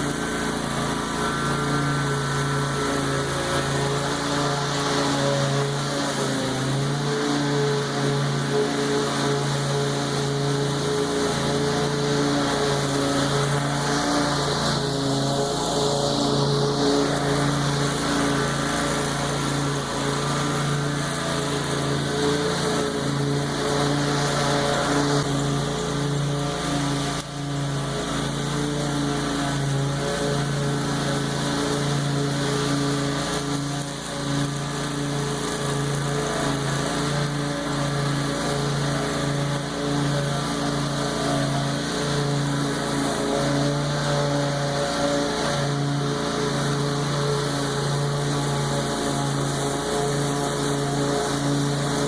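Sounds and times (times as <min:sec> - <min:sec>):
lawn mower engine cutting grass: 0:00.0 - 0:52.0.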